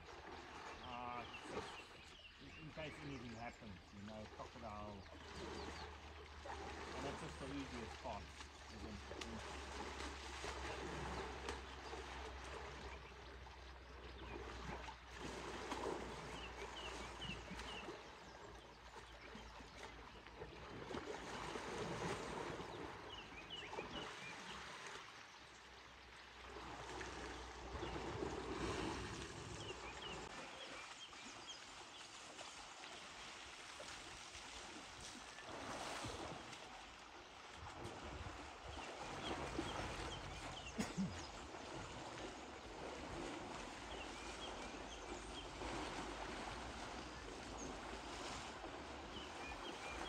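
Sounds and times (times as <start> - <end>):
water sloshing and splashing: 0.0 - 50.0.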